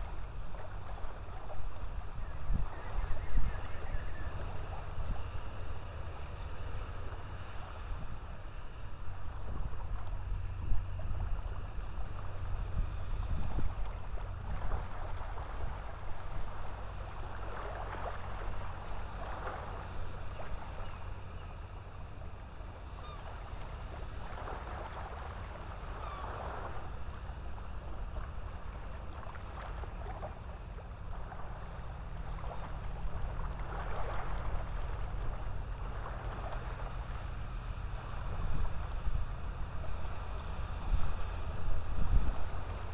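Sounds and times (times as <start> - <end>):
wind rumble on microphone: 0.0 - 42.9.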